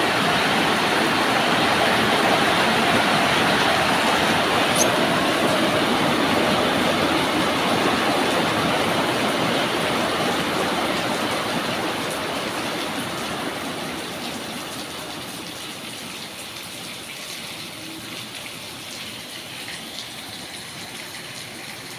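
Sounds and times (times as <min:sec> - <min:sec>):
rain hiss: 0:00.0 - 0:21.9.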